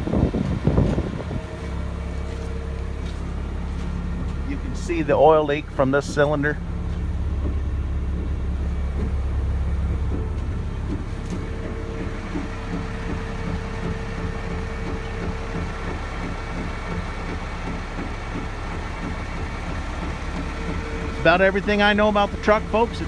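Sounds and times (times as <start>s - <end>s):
steady higher hum: 0.0s - 23.0s
truck engine idling: 0.0s - 23.0s.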